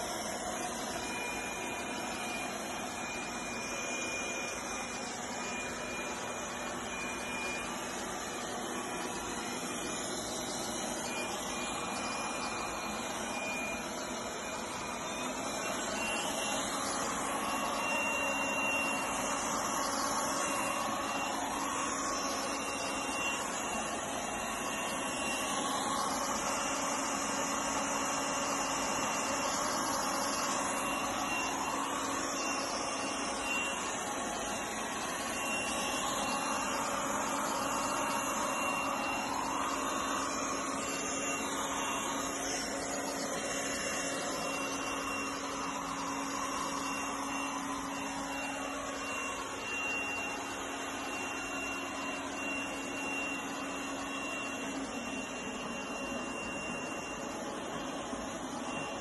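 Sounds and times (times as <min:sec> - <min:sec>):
robot vacuum whirring: 0:00.0 - 0:59.0.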